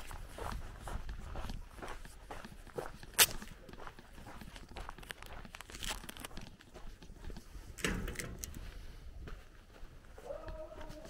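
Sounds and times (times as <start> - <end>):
footsteps on gravel: 0.0 - 11.0.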